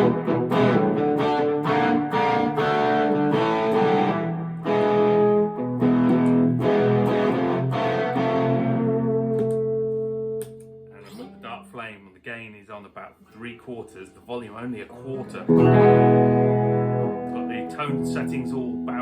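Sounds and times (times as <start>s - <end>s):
overdriven electric guitar chords: 0.0s - 11.4s, 15.2s - 19.0s.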